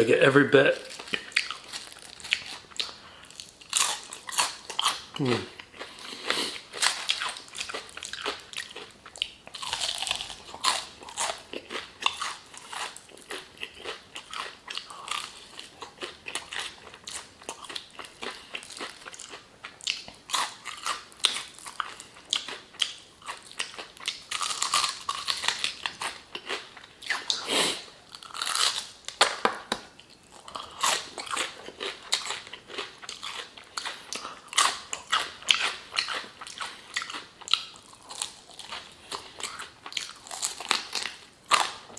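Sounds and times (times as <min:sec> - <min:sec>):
person chewing crunchy food: 0:00.6 - 0:41.9.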